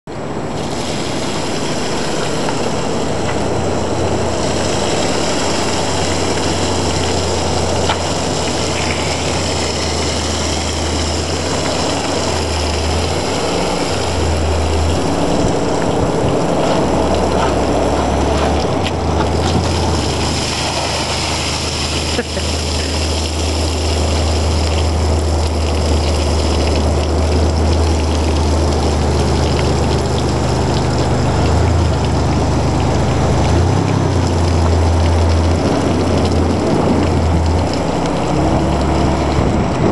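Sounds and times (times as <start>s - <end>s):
water splashing: 0.2s - 39.9s.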